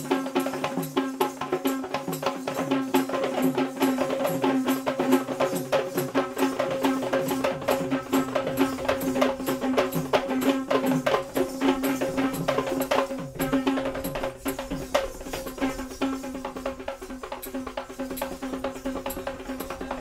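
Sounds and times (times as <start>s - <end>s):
rapid drum strokes: 0.0s - 20.0s.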